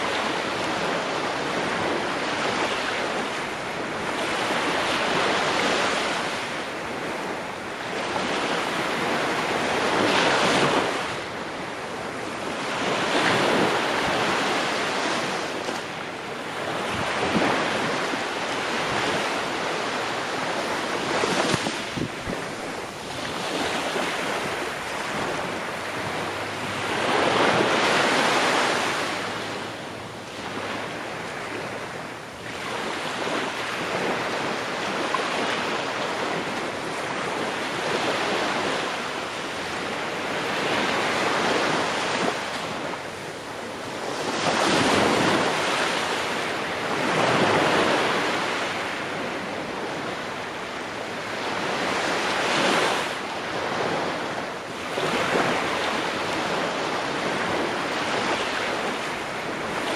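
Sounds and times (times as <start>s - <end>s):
ocean waves breaking on shore: 0.0s - 59.9s
wind noise: 0.0s - 59.9s.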